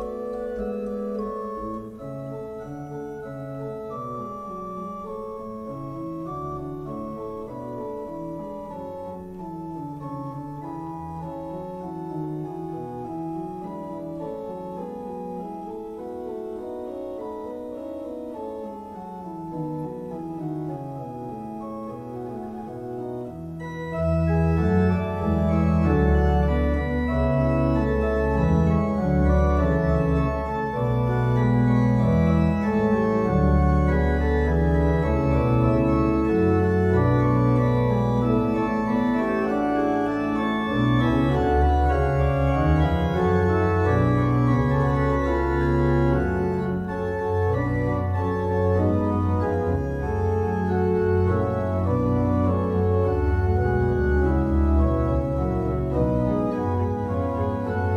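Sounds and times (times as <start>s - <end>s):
church organ chords: 0.0s - 57.9s.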